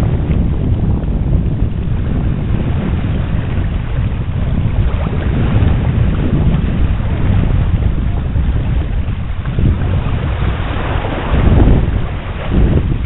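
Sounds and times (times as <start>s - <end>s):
waves lapping on rocky shore: 0.0s - 13.0s
wind buffeting microphone: 0.0s - 13.0s.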